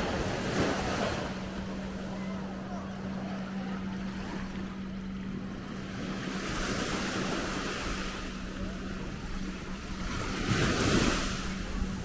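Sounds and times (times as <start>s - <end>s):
sea waves breaking: 0.0s - 12.0s
steady low hum: 0.0s - 12.0s.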